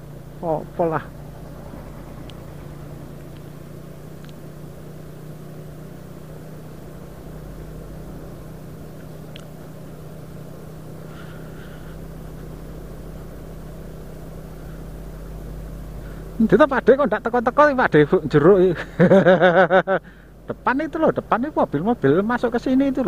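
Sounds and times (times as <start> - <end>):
road and wind noise: 0.0 - 23.0
vehicle engine drone: 0.0 - 23.0.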